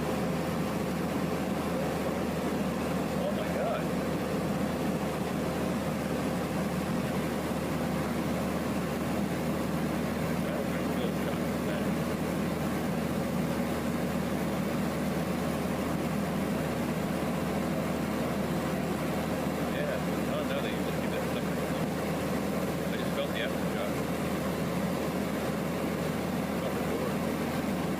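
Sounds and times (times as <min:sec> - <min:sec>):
light aircraft engine droning: 0:00.0 - 0:27.9.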